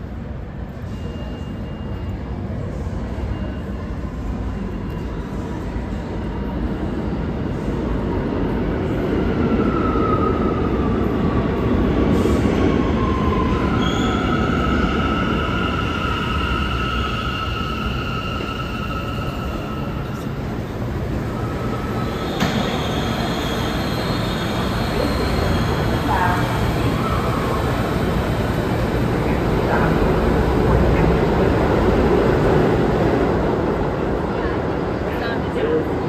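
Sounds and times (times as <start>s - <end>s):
subway train rumble: 0.0s - 36.0s.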